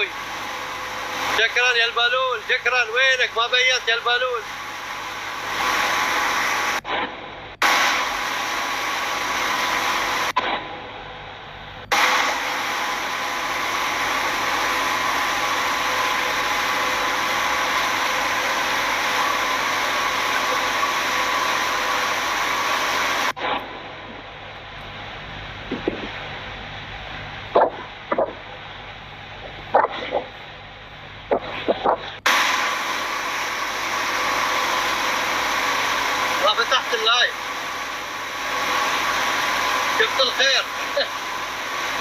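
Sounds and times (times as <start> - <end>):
faint hum tones: 0.0 - 42.0.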